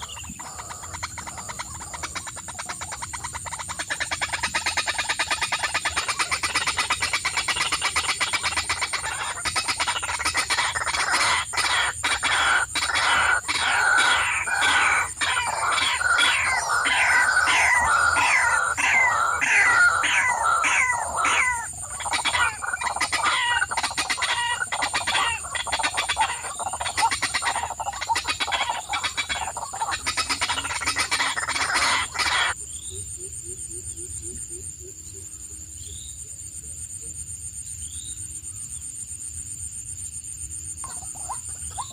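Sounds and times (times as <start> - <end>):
many birds calling: 0.0 - 36.1, 40.8 - 41.9
faint bird chirps: 0.0 - 39.0, 40.7 - 41.9.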